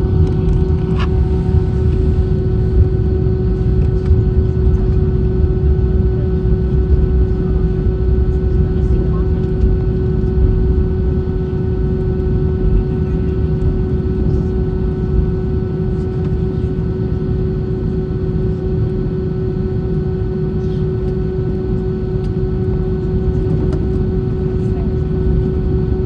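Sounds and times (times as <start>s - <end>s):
airliner engine and airflow rumble: 0.0s - 26.0s
constant cabin hum: 0.0s - 26.0s.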